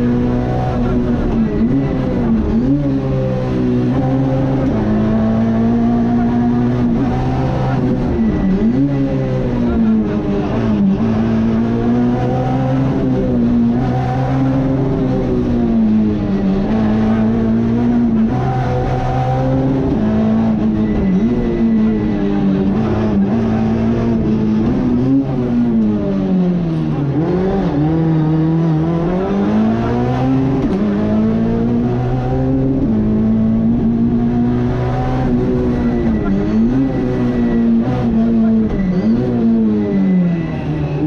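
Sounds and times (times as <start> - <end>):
rally car engine at high revs: 0.0 - 41.0.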